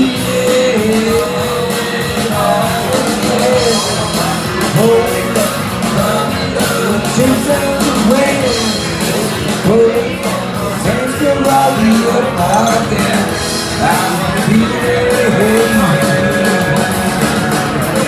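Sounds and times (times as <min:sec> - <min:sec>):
rock song with singing: 0:00.0 - 0:18.0.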